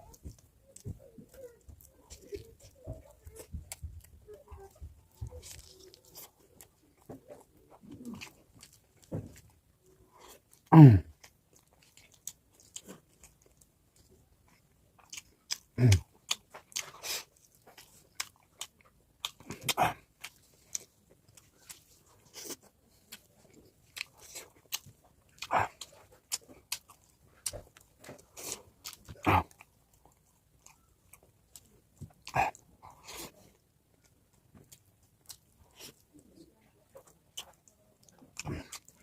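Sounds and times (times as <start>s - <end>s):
person chewing and crunching: 0.0s - 39.0s.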